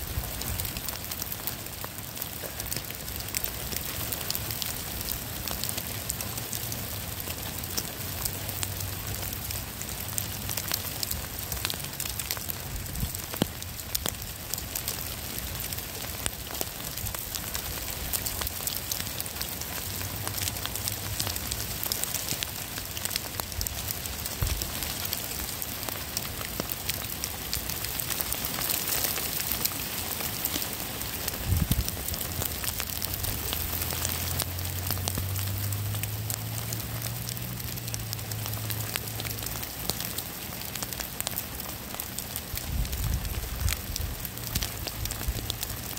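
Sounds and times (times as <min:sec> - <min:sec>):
rain pattering on rocks: 0:00.0 - 0:45.9.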